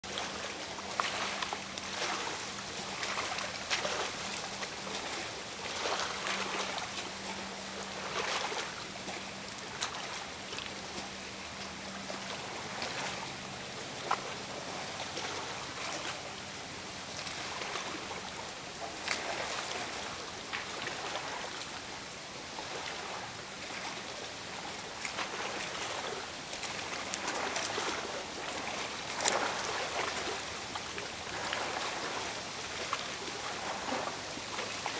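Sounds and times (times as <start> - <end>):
lake waves lapping: 0.0 - 34.9.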